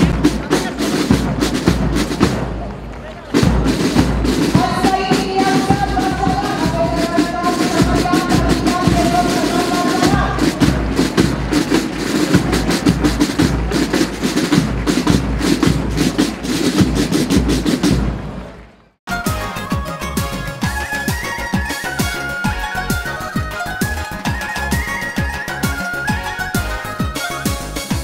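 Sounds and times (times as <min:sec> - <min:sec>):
march drum beat: 0:00.0 - 0:28.0.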